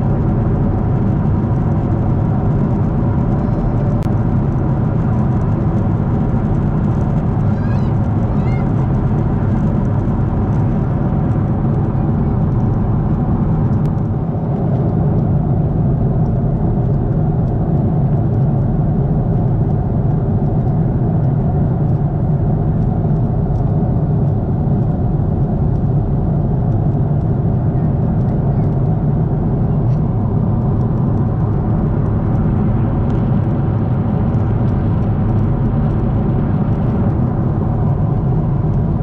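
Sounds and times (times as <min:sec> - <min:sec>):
airliner engine hum: 0:00.0 - 0:39.0.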